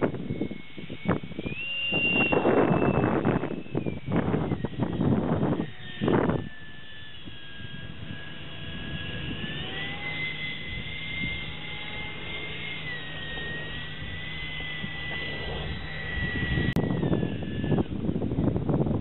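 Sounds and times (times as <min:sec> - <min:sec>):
electric fan whining: 0:00.0 - 0:19.0.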